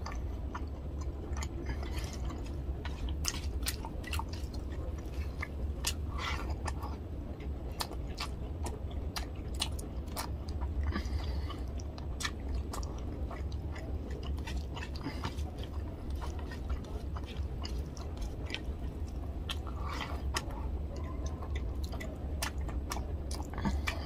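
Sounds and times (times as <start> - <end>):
person chewing food: 0.0 - 24.0
steady low hum: 0.0 - 24.0.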